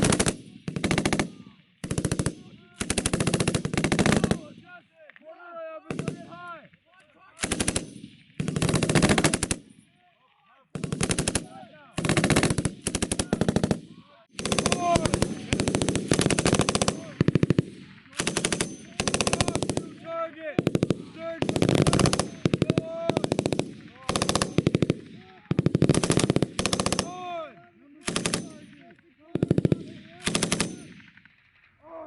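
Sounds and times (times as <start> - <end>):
machine guns firing bursts: 0.0 - 4.6, 5.8 - 6.5, 7.3 - 9.8, 10.7 - 31.8.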